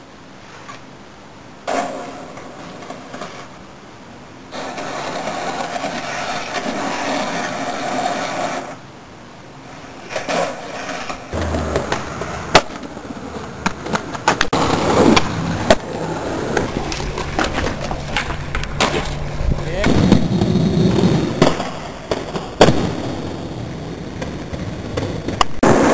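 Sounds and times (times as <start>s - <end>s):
skateboard popping and landing: 1.6s - 3.6s, 4.5s - 8.8s, 9.8s - 25.9s
skateboard wheels rolling: 1.6s - 25.9s.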